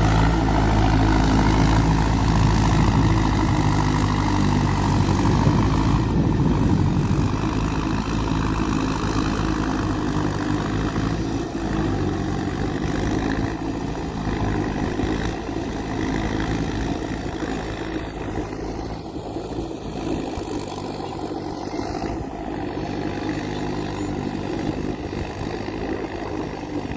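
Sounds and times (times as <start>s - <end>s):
vehicle engine running: 0.0s - 26.9s.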